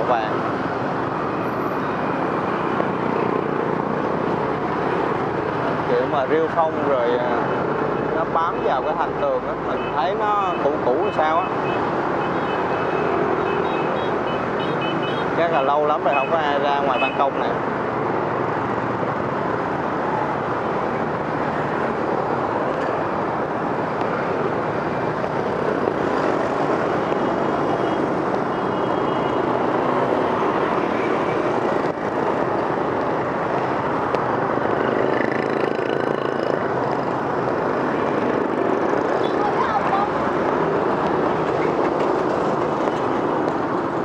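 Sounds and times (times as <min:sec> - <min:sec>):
city street traffic: 0:00.0 - 0:44.0.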